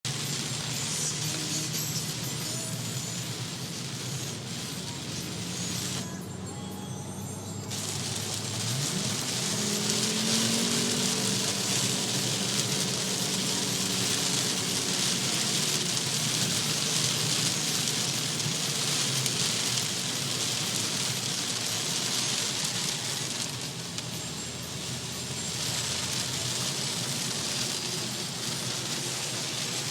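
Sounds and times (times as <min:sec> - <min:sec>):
torrential rain: 0:00.0 - 0:06.1, 0:07.6 - 0:29.9
low engine hum: 0:00.1 - 0:29.9.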